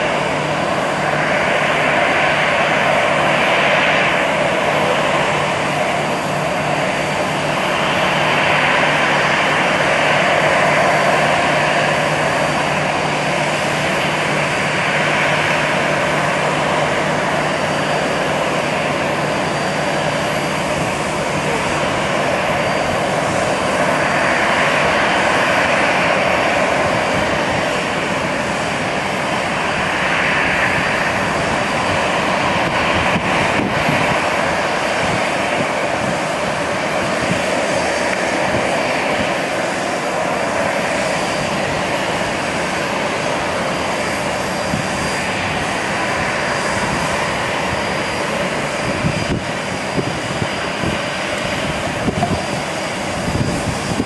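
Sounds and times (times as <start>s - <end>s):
faint high whine: 0.0s - 54.0s
jet engines rushing: 0.0s - 54.0s.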